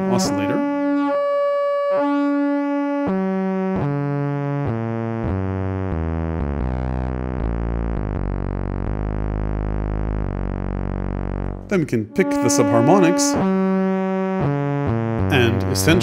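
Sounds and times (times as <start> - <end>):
deep buzzing synthesizer drone: 0.0 - 16.0
synthesizer subharmonic tones: 0.0 - 16.0.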